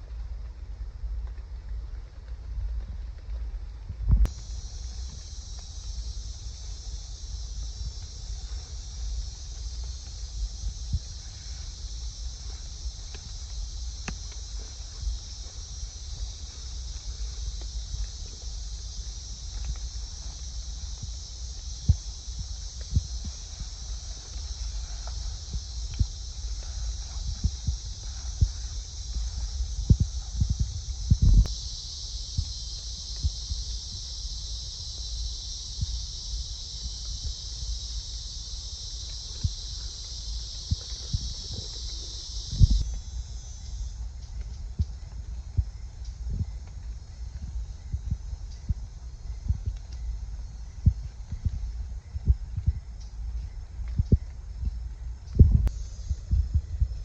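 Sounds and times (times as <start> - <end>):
low rumble: 0.0 - 35.1, 36.7 - 57.0
night insects chirring: 4.2 - 57.0.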